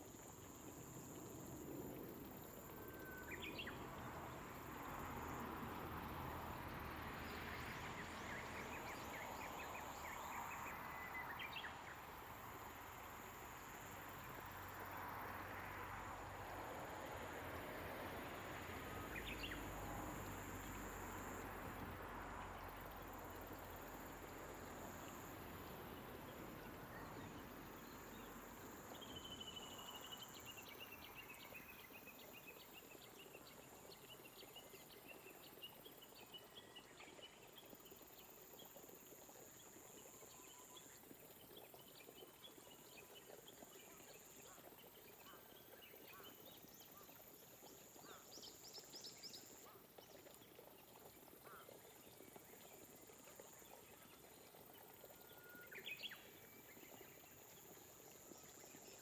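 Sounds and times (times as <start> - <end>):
gentle rain hissing: 0.0 - 59.0.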